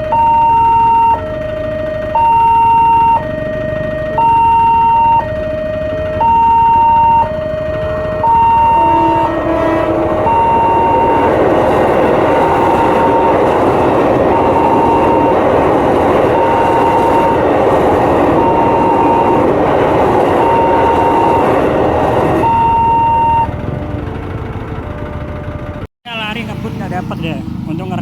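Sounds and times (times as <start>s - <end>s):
level crossing alarm beeping: 0.0s - 25.9s
train wagons rumbling past: 0.0s - 28.0s.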